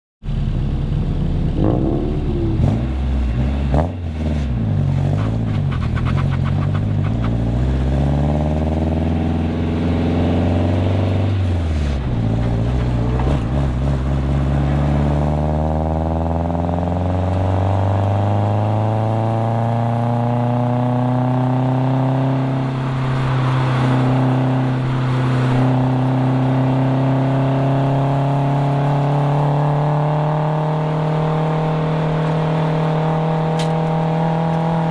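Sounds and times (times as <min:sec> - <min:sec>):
car engine accelerating: 0:00.2 - 0:34.9.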